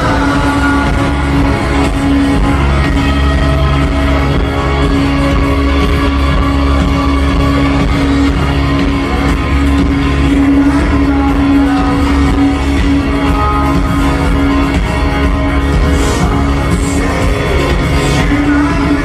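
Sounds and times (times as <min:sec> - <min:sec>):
heavy bass: 0:00.0 - 0:19.0
live rock band playing: 0:00.0 - 0:19.0.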